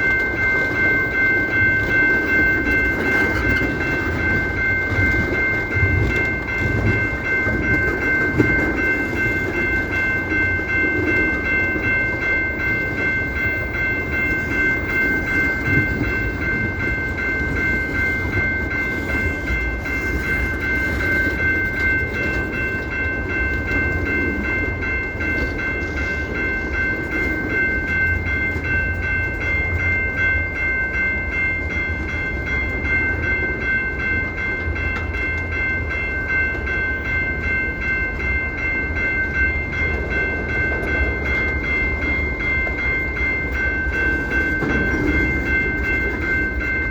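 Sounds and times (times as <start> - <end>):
continuous high-pitched tone: 0.0 - 46.9
train rumble: 0.0 - 46.9.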